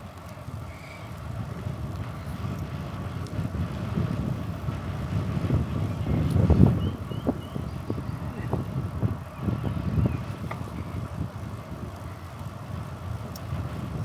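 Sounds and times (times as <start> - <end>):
bicycle rumble and buffeting: 0.0 - 14.0.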